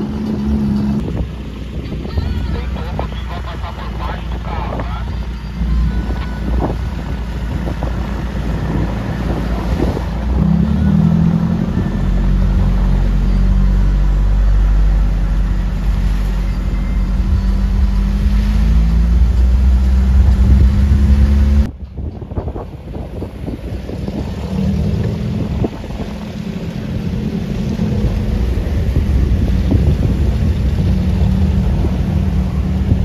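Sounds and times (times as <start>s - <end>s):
engine running hard: 0.0s - 33.0s.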